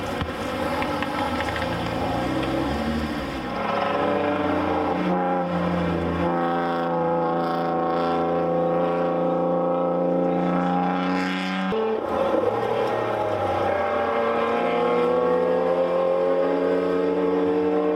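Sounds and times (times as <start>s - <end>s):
race car engine revving: 0.0s - 17.9s.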